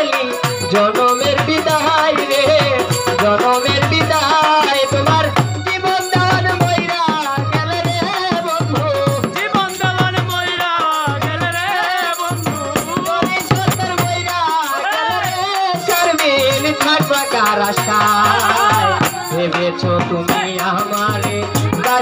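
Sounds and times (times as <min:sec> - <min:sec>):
drum beating: 0:00.0 - 0:22.0.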